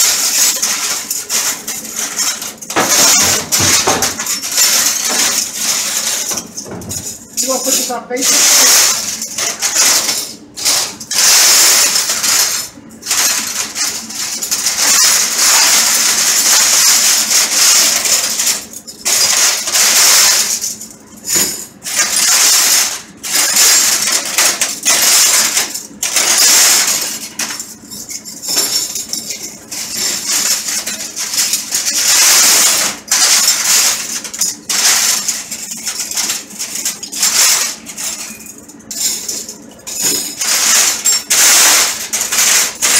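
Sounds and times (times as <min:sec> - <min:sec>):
steel cutlery clattering: 0:00.0 - 0:42.9.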